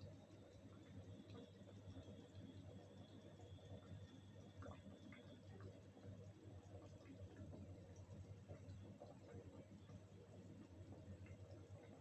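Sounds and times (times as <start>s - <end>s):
faint low hum: 0.0s - 12.0s
food simmering crackles: 0.0s - 12.0s.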